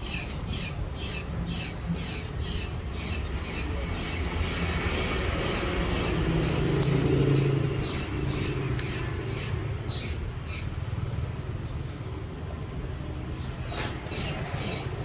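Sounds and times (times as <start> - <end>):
motor vehicle engine rumble: 0.0 - 15.0.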